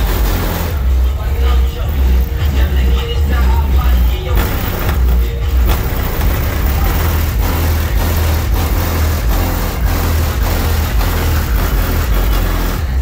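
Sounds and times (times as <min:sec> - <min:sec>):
bass-heavy music on car stereo: 0:00.0 - 0:13.0.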